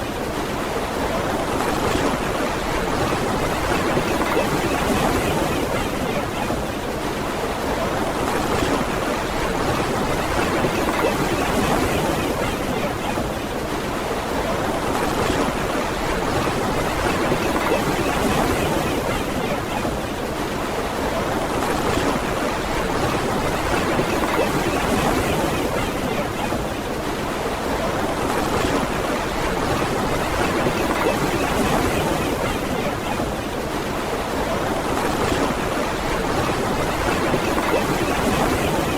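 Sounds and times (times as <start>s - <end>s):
ocean surf washing onto beach: 0.0s - 38.9s.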